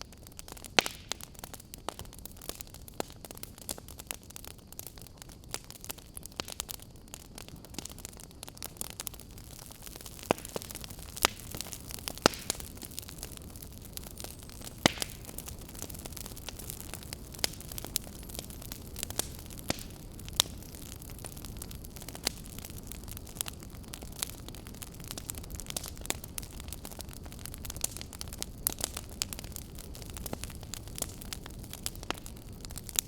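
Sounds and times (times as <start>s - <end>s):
low rumble of flames: 0.0s - 33.0s
wood fire crackling and popping: 0.0s - 33.0s.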